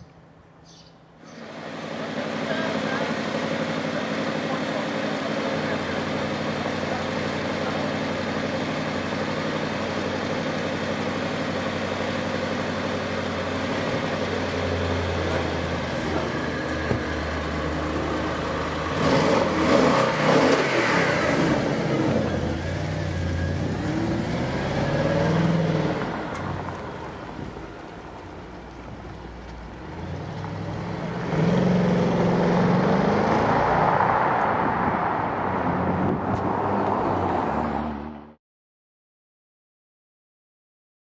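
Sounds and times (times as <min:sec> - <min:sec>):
car pulling away: 0:01.3 - 0:38.3
car engine revving: 0:01.4 - 0:27.2, 0:30.0 - 0:38.3.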